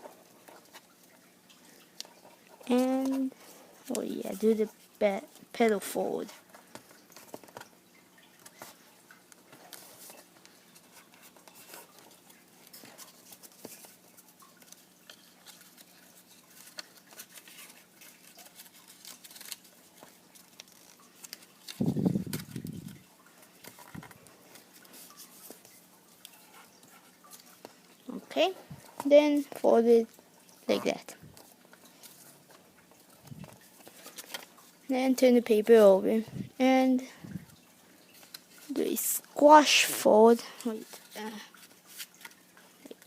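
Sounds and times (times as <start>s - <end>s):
paper crinkling and creasing: 0.0s - 43.0s.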